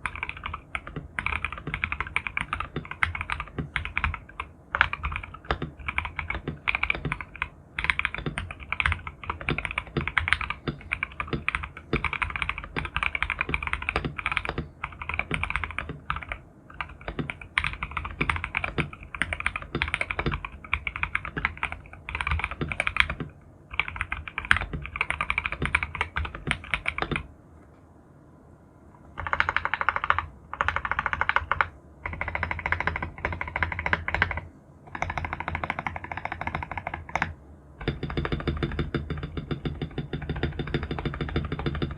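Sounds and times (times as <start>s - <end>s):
mechanical keyboard typing: 0.0s - 27.3s, 29.2s - 41.9s.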